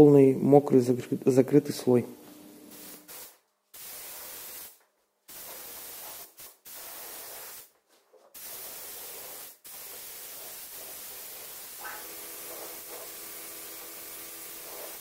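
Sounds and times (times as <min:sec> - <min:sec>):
spray gun hissing: 0:02.0 - 0:07.7, 0:08.4 - 0:15.0.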